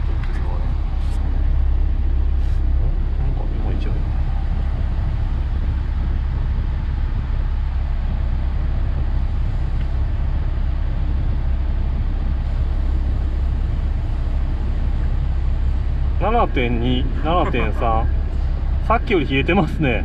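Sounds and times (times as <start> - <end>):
blower fan air rush: 0.0 - 20.0
car engine idling: 0.0 - 20.0.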